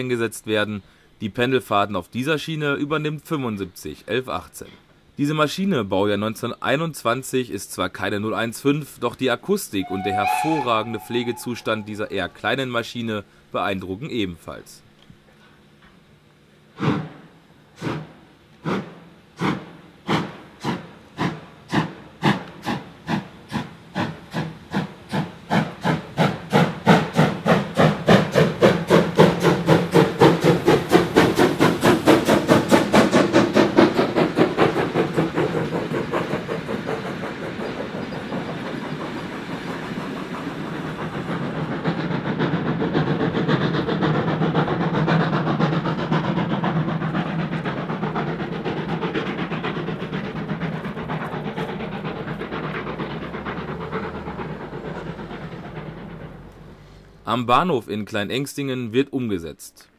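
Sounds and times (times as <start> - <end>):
steam locomotive exhaust beats: 7.9 - 14.5, 15.2 - 58.0.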